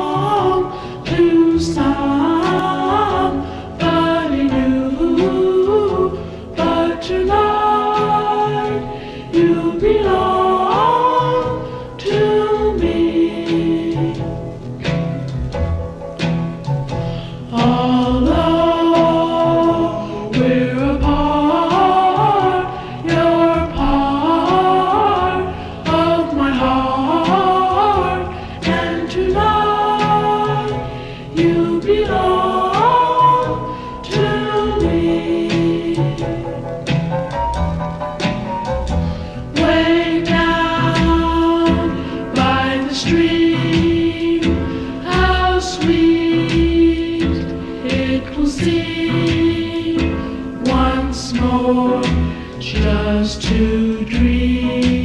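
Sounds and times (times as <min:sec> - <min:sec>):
choir singing in harmony: 0:00.0 - 0:15.0, 0:17.4 - 0:37.1, 0:39.0 - 0:55.0
low steady accompaniment: 0:00.0 - 0:55.0.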